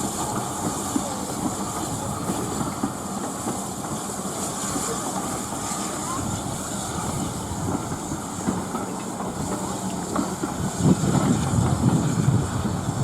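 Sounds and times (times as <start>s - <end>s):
steam hissing: 0.0s - 13.0s
steam train rumbling: 0.0s - 13.0s.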